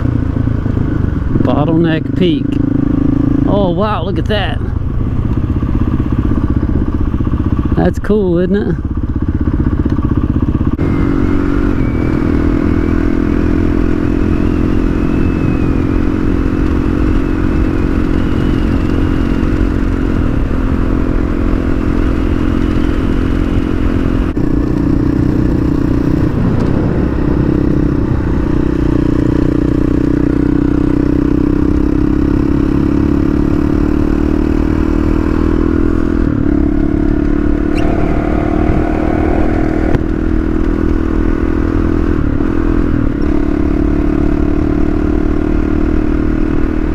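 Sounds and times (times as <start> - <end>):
motorcycle engine cruising: 0.0 - 46.9.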